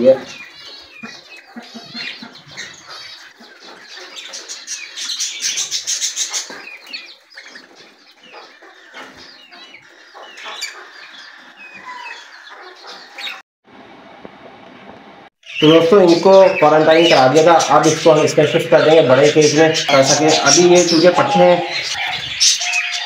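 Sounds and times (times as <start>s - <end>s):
hen clucking: 0.0s - 13.4s, 15.5s - 23.0s
small birds chirping: 0.0s - 13.4s, 15.4s - 23.0s.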